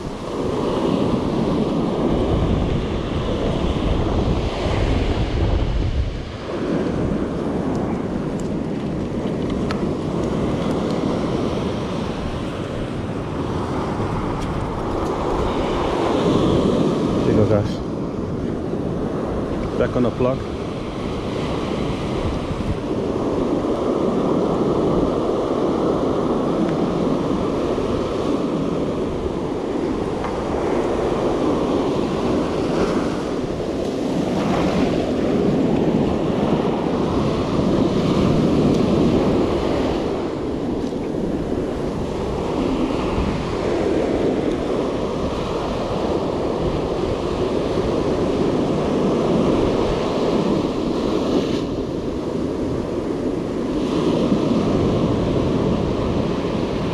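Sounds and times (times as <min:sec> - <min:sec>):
ocean surf breaking on sand: 0:00.0 - 0:56.9.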